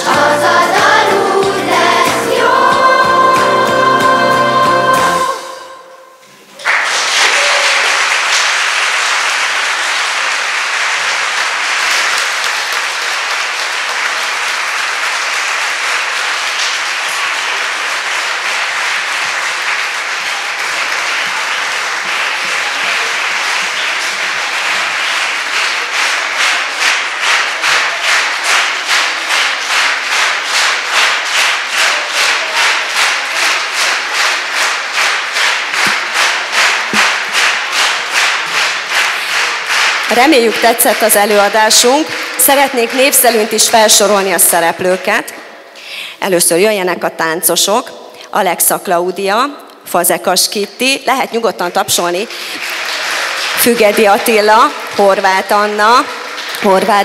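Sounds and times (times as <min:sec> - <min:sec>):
audience applauding: 0:00.0 - 0:05.6, 0:06.6 - 0:44.4, 0:52.2 - 0:57.0
rhythmic clapping in unison: 0:00.0 - 0:05.8, 0:06.6 - 0:46.1, 0:51.8 - 0:57.0.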